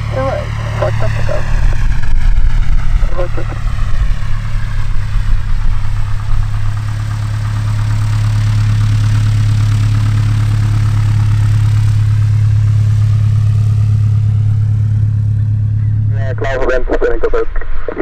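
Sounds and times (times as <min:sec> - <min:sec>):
light aircraft engine and propeller: 0:00.0 - 0:18.0.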